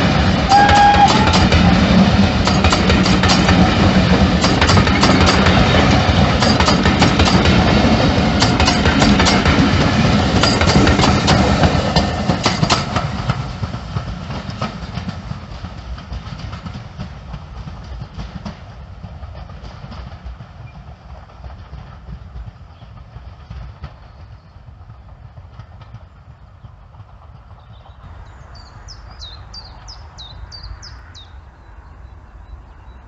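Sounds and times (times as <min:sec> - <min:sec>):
train wheels clicking over rail joints: 0:00.0 - 0:31.3.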